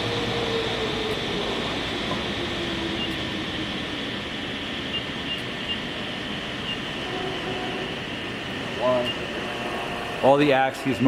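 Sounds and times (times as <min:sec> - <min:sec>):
milling machine servo whine: 0:00.0 - 0:11.0.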